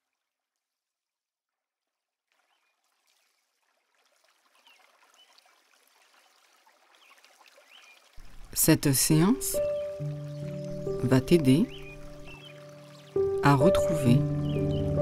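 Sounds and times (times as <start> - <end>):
faint trickling stream: 0.0 - 15.0.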